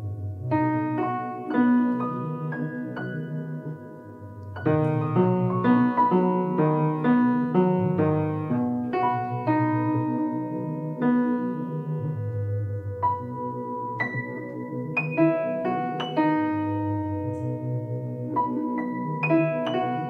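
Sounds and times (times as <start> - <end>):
piano notes: 0.0 - 20.0
sustained low tones: 0.0 - 20.0.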